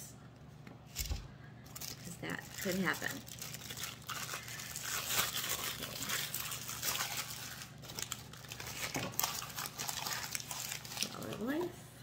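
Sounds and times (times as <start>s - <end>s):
packing paper crinkling: 1.0s - 11.6s.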